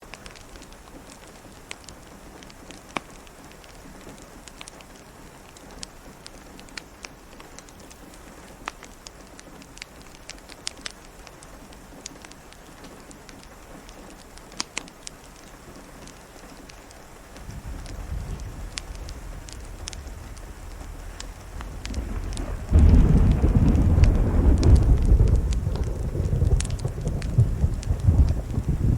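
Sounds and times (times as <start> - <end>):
fireplace crackling: 0.0 - 28.9
rain pattering: 0.0 - 28.9.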